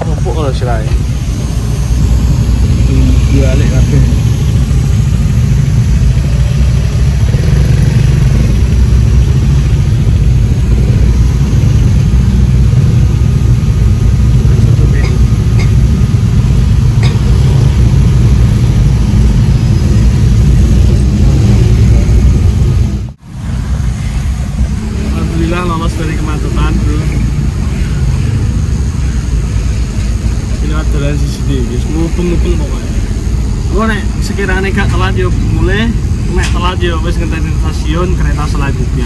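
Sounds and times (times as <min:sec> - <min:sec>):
engine and road rumble: 0:00.0 - 0:39.0.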